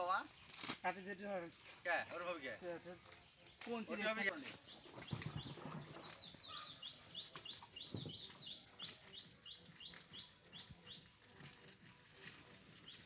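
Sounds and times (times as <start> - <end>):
bird chirping: 2.2 - 13.0.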